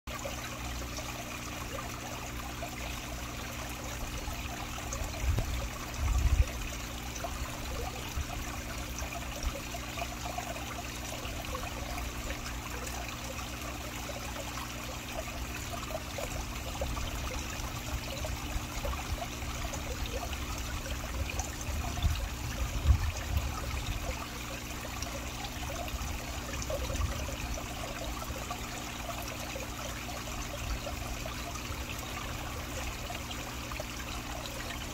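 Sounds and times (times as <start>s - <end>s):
water trickling into pond: 0.1s - 34.9s.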